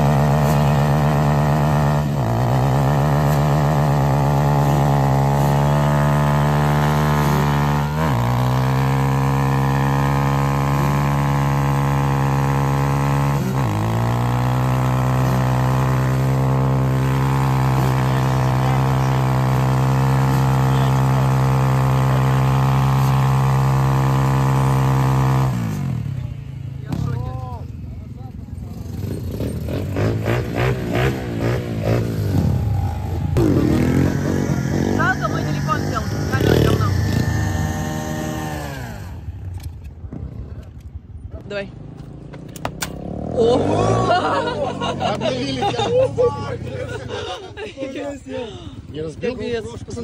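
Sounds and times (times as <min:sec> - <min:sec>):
pit bike engine revving: 0:00.0 - 0:27.6, 0:28.7 - 0:40.2, 0:41.5 - 0:50.0.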